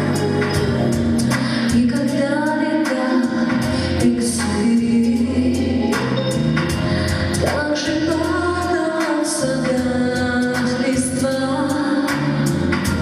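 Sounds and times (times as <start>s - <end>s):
live pop band playing: 0.0s - 13.0s
person singing: 0.0s - 13.0s.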